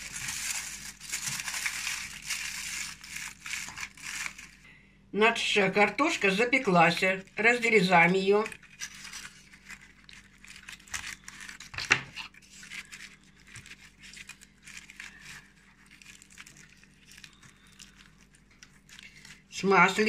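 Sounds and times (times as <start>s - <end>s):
aluminium foil crinkling: 0.0s - 4.7s, 6.5s - 20.0s.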